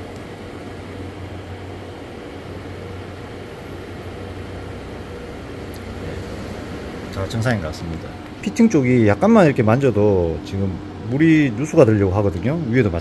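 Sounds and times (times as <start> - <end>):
computer fans humming and whooshing: 0.0 - 13.0.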